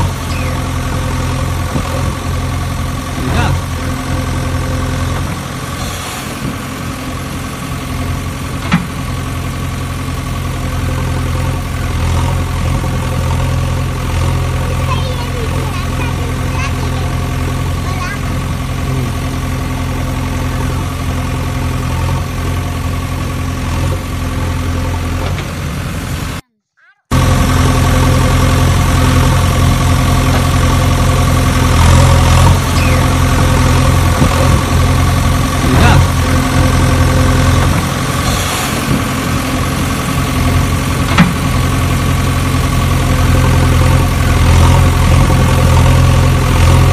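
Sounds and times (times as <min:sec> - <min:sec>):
engine idling hum: 0:00.0 - 0:26.4, 0:27.1 - 0:46.9.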